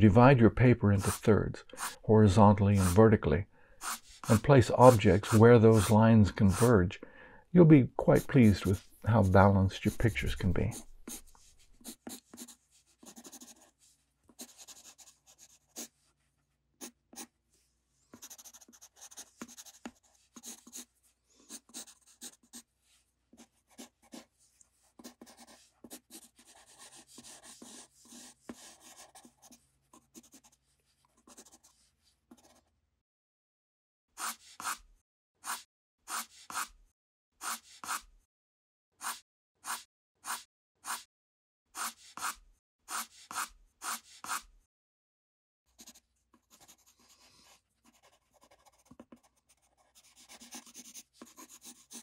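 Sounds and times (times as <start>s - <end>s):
pencil scratching on paper: 0.9s - 3.0s, 3.8s - 6.8s, 8.0s - 16.1s, 16.8s - 17.3s, 18.1s - 32.7s, 34.2s - 36.8s, 37.4s - 38.1s, 39.0s - 41.1s, 41.8s - 44.5s, 45.7s - 52.0s.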